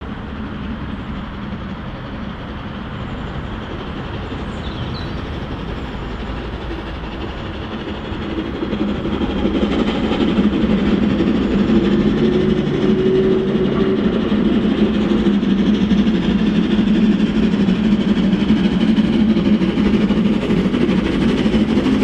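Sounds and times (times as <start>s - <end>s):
steam locomotive running: 0.0s - 22.0s.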